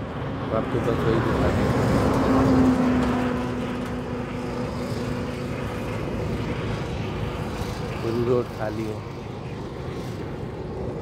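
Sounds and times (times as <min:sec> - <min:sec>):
truck engine drone passing: 0:00.0 - 0:11.0.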